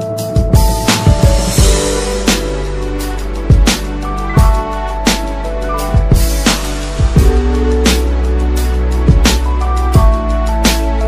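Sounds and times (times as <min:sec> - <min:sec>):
music with drum beat: 0:00.0 - 0:11.0.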